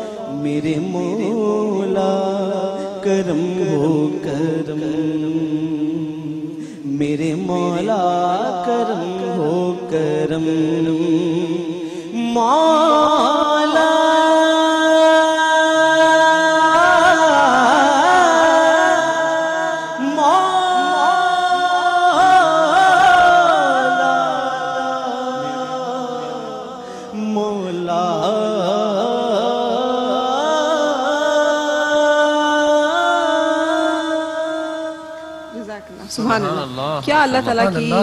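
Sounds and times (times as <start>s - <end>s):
man singing long notes: 0.0s - 35.6s.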